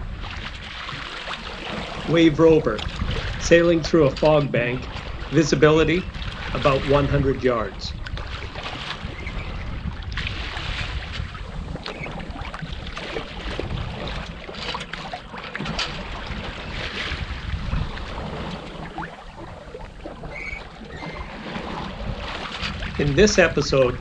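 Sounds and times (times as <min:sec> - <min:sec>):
water rushing along boat hull: 0:00.0 - 0:24.0
wind buffeting microphone: 0:00.0 - 0:24.0.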